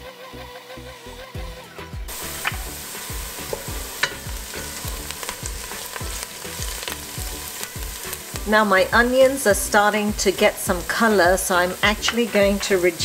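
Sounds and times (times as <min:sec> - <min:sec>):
onions sizzling in oil: 0:02.1 - 0:13.0.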